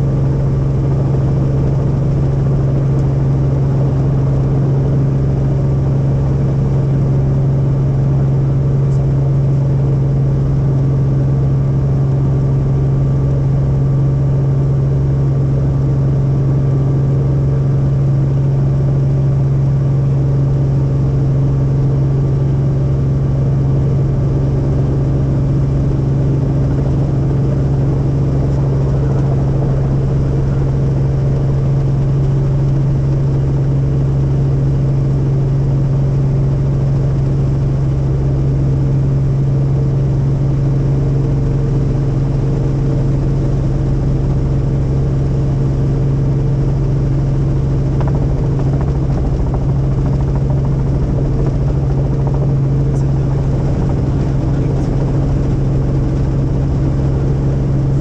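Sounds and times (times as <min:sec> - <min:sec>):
helicopter cabin drone: 0:00.0 - 0:58.0.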